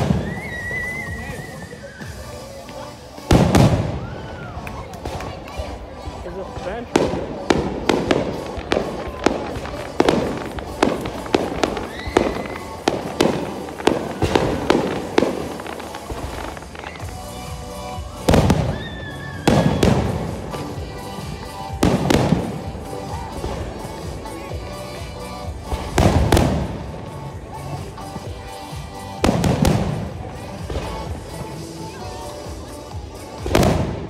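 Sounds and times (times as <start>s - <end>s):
fireworks banging: 0.0s - 34.0s
music playing: 0.0s - 34.0s.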